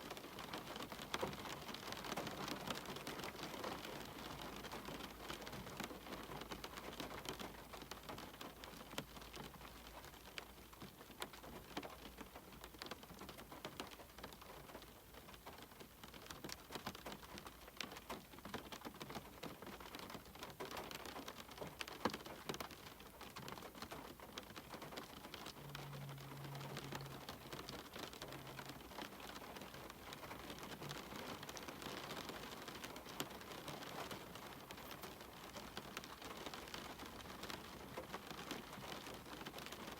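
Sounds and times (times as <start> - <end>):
rain drops tapping on window: 0.0 - 39.9.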